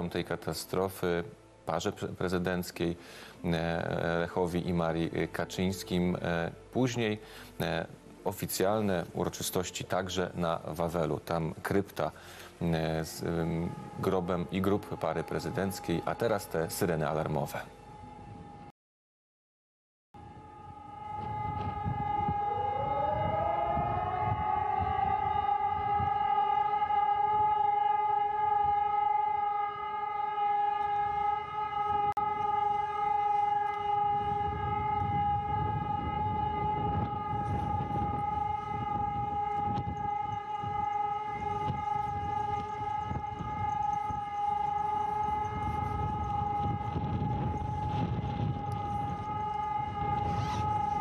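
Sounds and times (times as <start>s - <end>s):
alarm siren steady tone: 8.5s - 18.7s, 20.2s - 51.0s.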